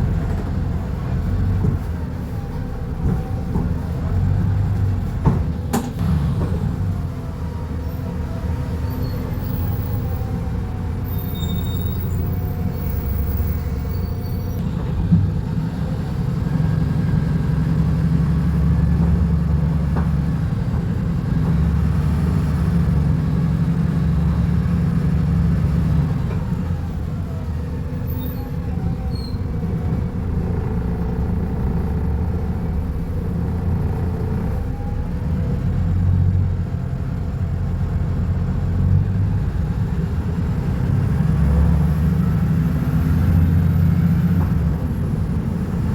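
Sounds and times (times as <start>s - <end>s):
bus engine rumbling: 0.0s - 45.9s.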